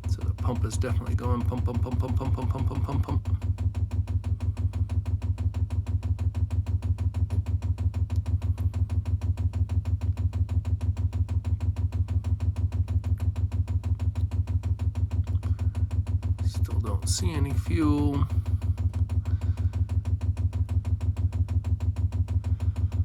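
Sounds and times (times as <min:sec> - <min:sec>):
fuel pump clicking rapidly: 0:00.0 - 0:23.0.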